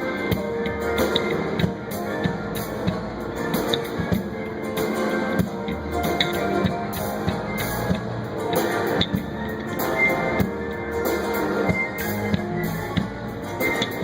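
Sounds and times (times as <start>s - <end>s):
pop-rock music: 0.0s - 14.0s.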